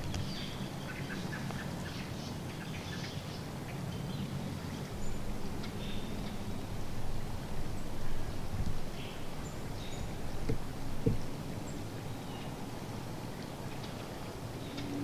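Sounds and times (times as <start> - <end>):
birds chirping and calling: 0.0 - 15.0
low steady hum: 0.0 - 15.0.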